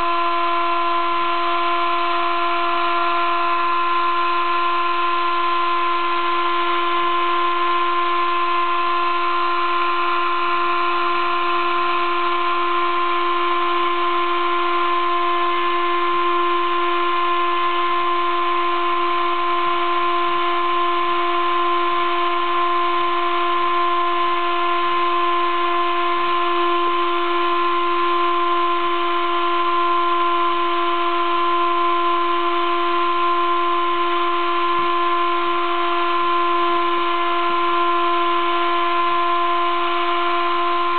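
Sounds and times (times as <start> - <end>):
spindle high whine: 0.0 - 40.9.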